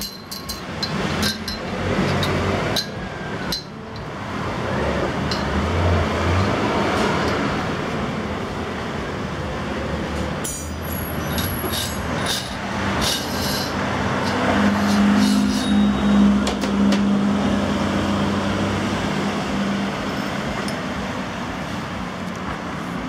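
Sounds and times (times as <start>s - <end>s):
road traffic rumble: 0.0s - 23.0s
heavy vehicle engine passing: 0.9s - 22.8s.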